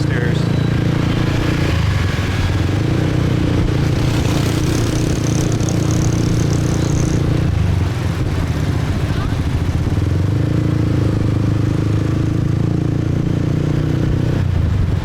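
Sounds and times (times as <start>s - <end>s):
motorbike engine running: 0.0s - 15.0s.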